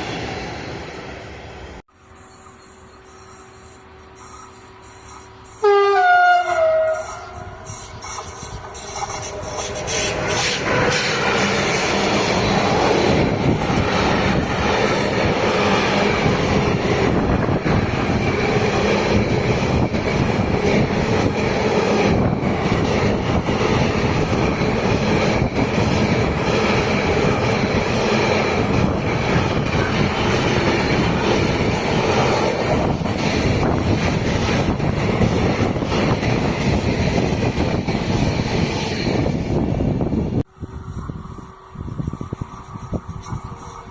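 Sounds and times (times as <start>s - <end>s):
train wheels rushing over rails: 0.0s - 43.9s.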